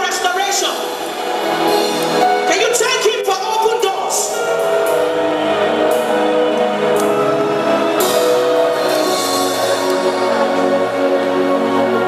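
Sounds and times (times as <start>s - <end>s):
band playing slow worship music: 0.2s - 12.0s.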